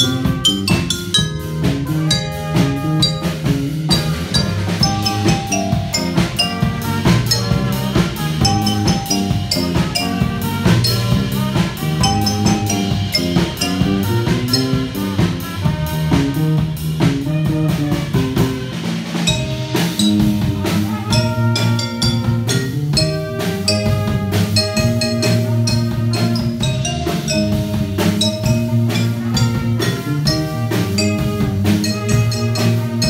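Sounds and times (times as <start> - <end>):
bass notes: 0.0 - 33.0
drum kit beat: 0.0 - 33.0
marimba notes: 0.0 - 33.0.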